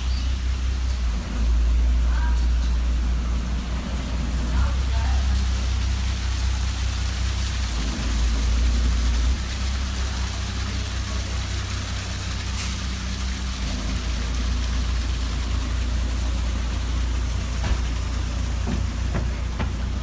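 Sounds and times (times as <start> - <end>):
boat diesel engine idling: 0.0 - 20.0
wind and water hiss: 0.0 - 20.0.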